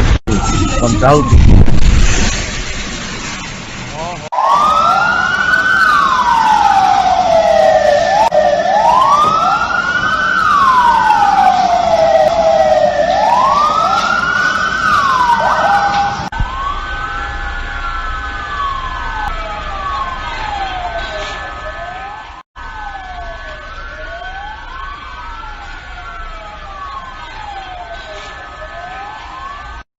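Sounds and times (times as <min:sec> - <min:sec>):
emergency sirens wailing: 0:00.0 - 0:02.3, 0:04.0 - 0:29.9.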